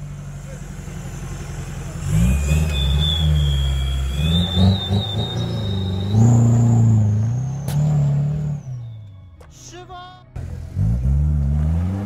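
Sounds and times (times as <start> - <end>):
diesel engine revving hard: 0.0 - 9.1, 10.4 - 12.0.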